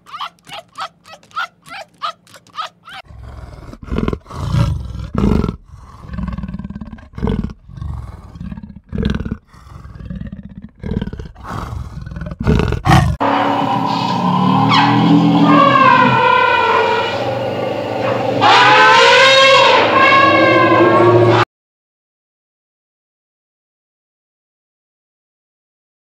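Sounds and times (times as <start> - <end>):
cheetah growling: 0.0 - 21.4.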